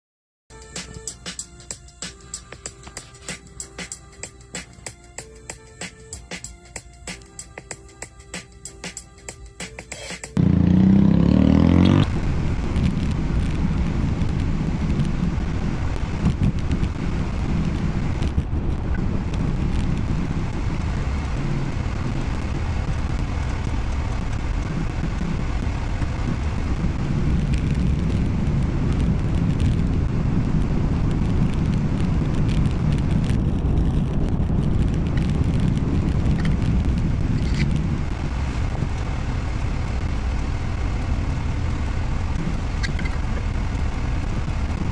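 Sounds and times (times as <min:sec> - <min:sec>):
car engine and road noise: 0:00.5 - 0:44.9.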